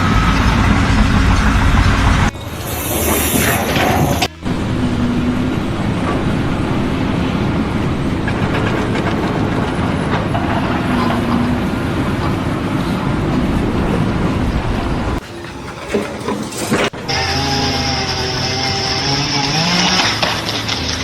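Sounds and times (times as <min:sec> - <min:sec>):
loud mechanical rumble: 0:00.0 - 0:21.0.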